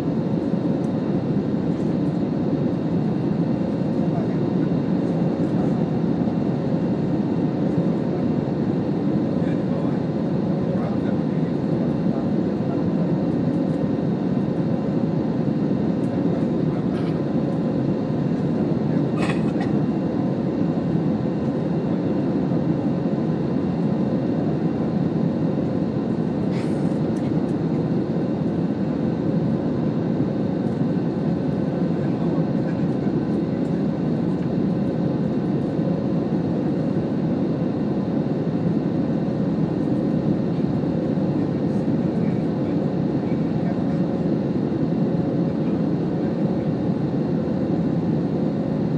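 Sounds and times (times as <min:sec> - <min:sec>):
jet engine roar in cabin: 0:00.0 - 0:48.9.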